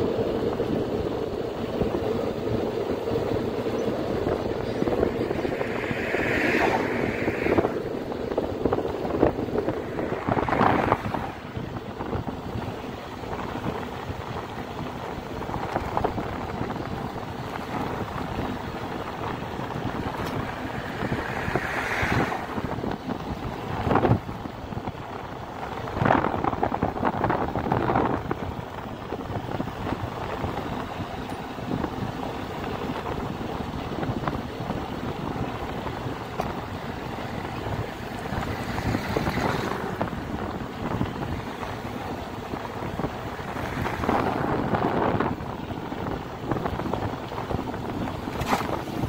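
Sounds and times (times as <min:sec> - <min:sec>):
vehicle road noise: 0:00.0 - 0:49.0
wind buffeting microphone: 0:00.0 - 0:49.0.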